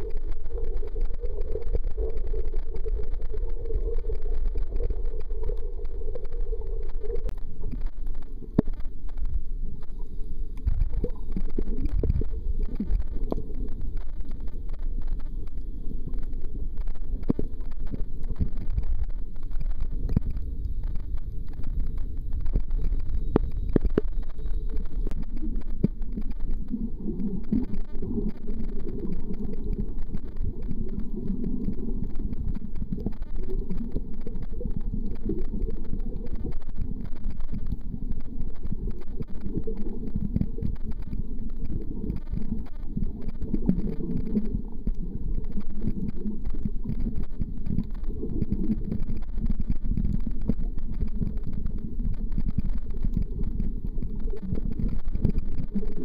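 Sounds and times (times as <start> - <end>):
fine crackling underwater: 0.0 - 56.0
low hollow water swells: 0.0 - 56.0
muffled underwater rumble: 0.0 - 56.0.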